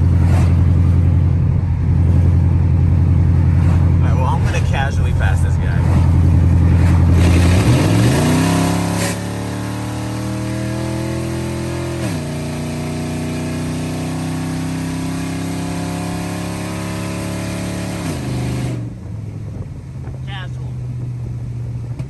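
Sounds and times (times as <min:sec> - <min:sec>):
truck engine accelerating: 0:00.0 - 0:22.0.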